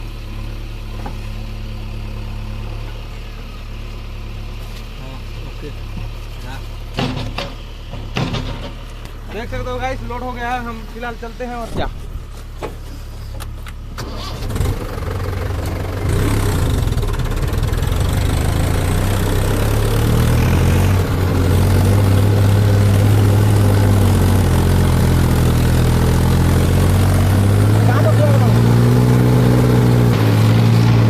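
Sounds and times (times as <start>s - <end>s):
diesel tractor engine throttling up: 0.0s - 31.0s.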